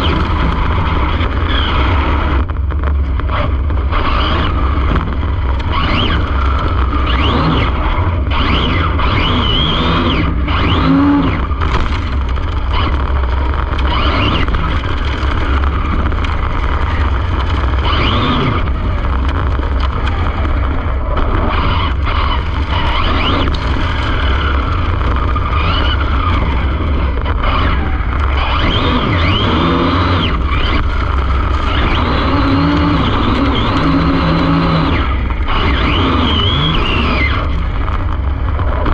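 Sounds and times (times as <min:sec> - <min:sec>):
wind and tyre rumble: 0:00.0 - 0:38.9
electric motor whine: 0:03.3 - 0:37.9.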